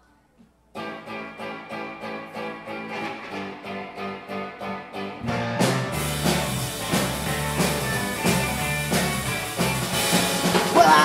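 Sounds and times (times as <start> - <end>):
electric guitar riff: 0.8 - 11.0
rock band playing: 0.8 - 11.0.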